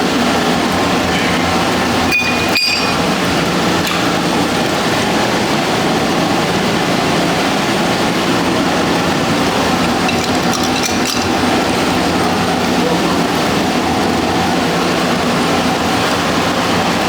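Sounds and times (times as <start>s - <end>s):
boiler room machinery humming: 0.0s - 17.0s.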